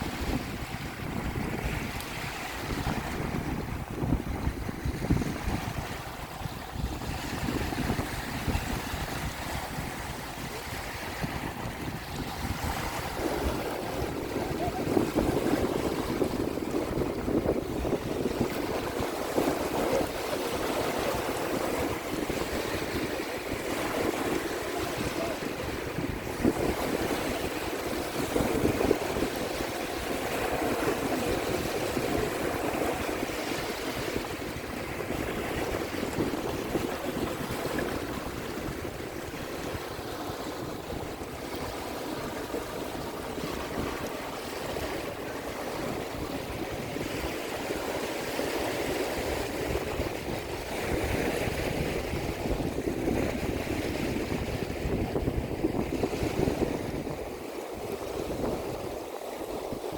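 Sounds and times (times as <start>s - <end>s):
small waves lapping at shore: 0.0s - 59.9s
wind on microphone: 0.0s - 59.9s.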